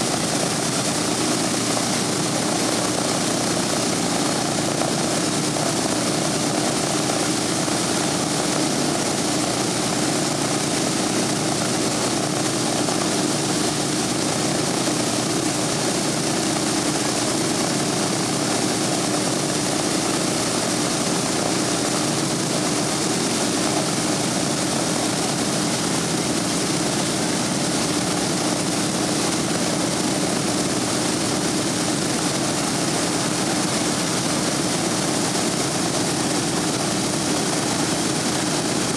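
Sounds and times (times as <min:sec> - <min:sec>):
radial aircraft engines running: 0:00.0 - 0:38.9.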